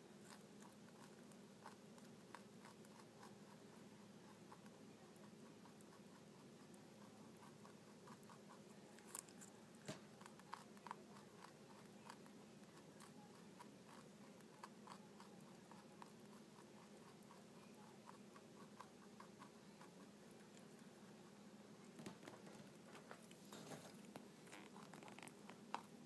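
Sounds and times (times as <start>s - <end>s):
rabbit chewing: 0.0s - 26.0s.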